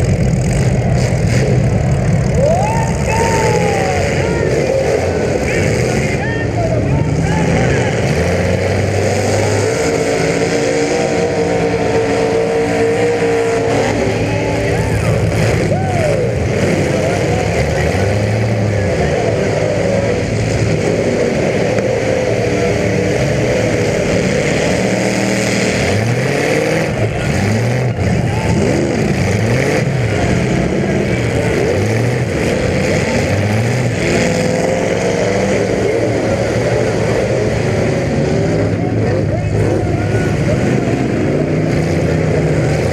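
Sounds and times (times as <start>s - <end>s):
car engines revving hard: 0.0s - 42.9s.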